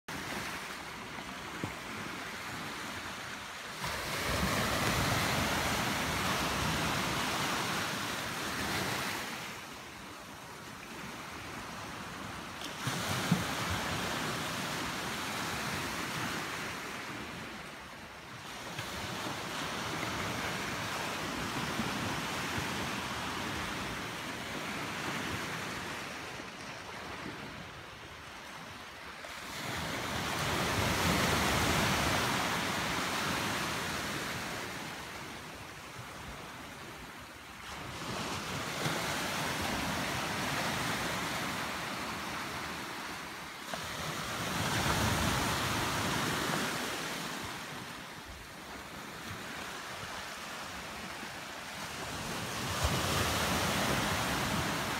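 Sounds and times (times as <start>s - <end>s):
small waves washing onto shore: 0.1s - 54.9s.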